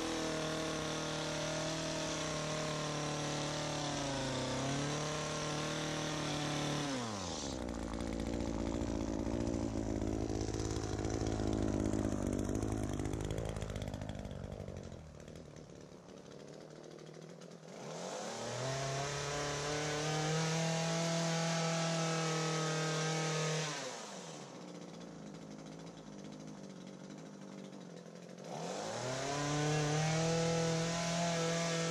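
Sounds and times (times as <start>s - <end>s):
hedge trimmer engine revving: 0.0s - 31.9s.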